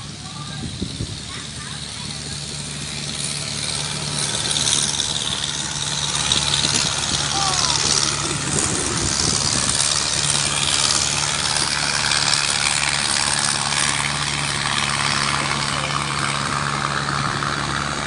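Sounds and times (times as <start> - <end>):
engine running with low hum: 0.0 - 18.0.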